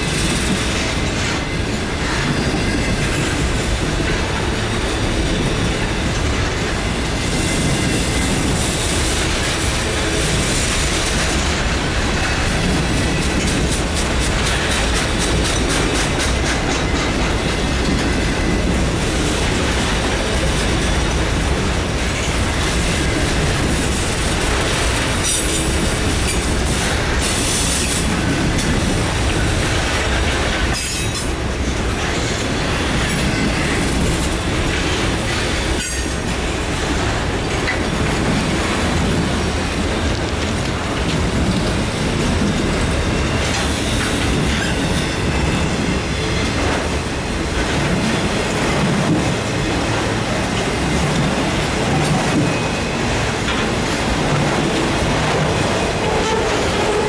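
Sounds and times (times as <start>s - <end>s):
train wheel squeal: 0.0s - 21.4s, 22.0s - 57.0s
freight train wheels rumbling: 0.0s - 57.0s
wheels clacking over rail joints: 0.0s - 57.0s.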